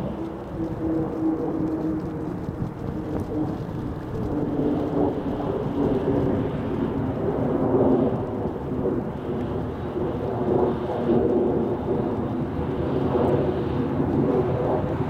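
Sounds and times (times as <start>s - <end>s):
engine and propeller droning: 0.0s - 15.0s.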